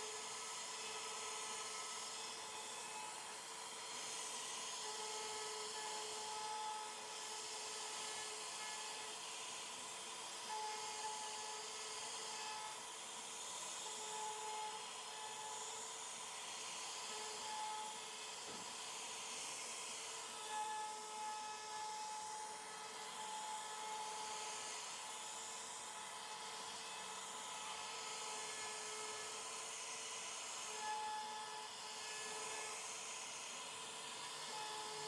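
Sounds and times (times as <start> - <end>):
bit cutting wood: 0.0 - 12.9, 13.6 - 18.8, 19.8 - 35.0
router spindle whine: 0.0 - 35.0.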